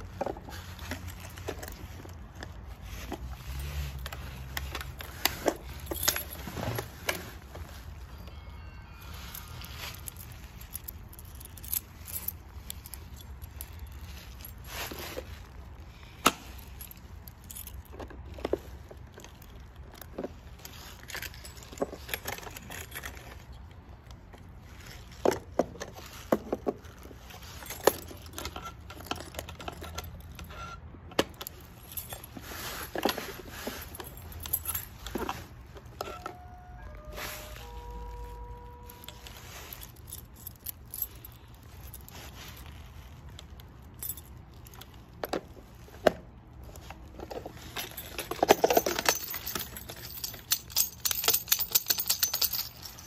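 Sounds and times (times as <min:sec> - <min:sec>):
keys jangling and clicking: 0:00.0 - 0:08.2, 0:09.1 - 0:53.0.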